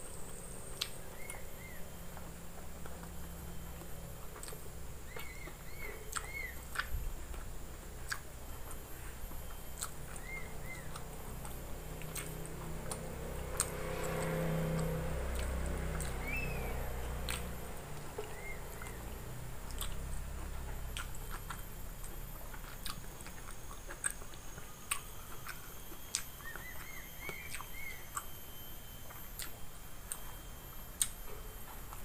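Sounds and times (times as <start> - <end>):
person chewing food: 0.7 - 28.3, 29.3 - 30.4.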